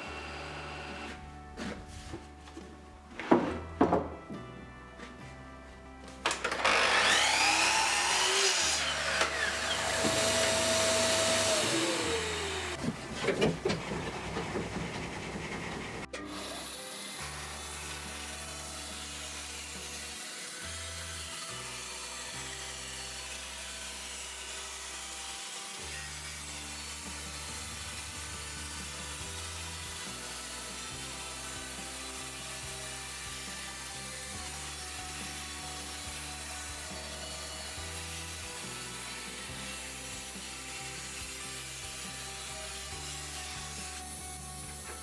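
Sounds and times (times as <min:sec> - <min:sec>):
bandsaw running: 0:00.0 - 0:01.2, 0:06.2 - 0:45.0
mitre saw cutting timber: 0:00.0 - 0:01.7, 0:06.2 - 0:45.0.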